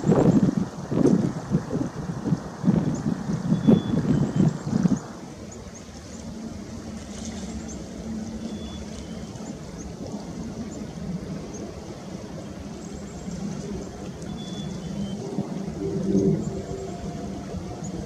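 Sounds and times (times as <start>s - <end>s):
flowing water: 0.0s - 18.0s
low engine hum: 0.0s - 18.0s.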